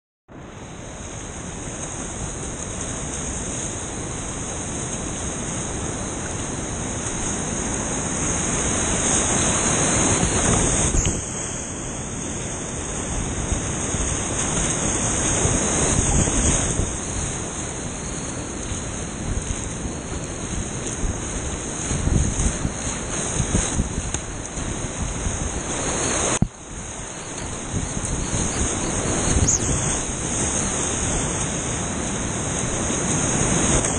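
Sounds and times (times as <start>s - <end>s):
whitewater rapids rushing: 0.4s - 33.9s.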